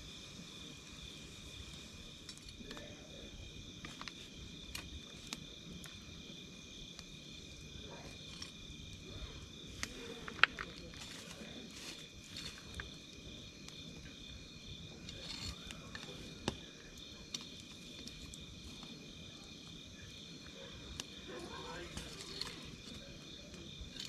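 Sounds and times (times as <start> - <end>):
campfire crackling: 0.0 - 24.0
insects trilling: 0.0 - 24.0.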